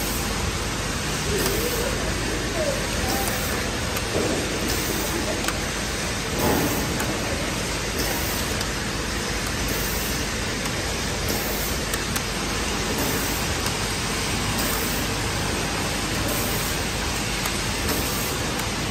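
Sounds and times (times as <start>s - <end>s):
steady machine noise: 0.0s - 18.9s.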